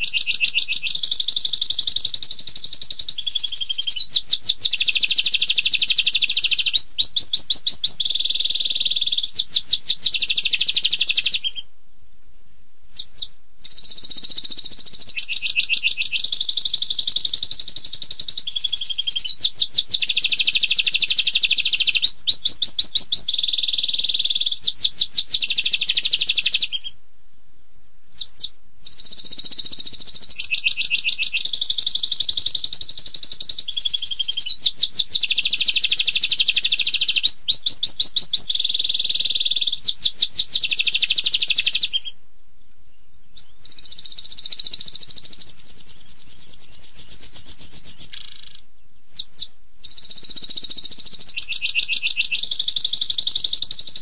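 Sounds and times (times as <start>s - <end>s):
canary singing trills: 0.0s - 11.7s, 12.9s - 27.0s, 28.1s - 54.0s
short bird chirps: 0.0s - 11.7s, 12.9s - 27.0s, 28.1s - 42.2s, 42.8s - 54.0s.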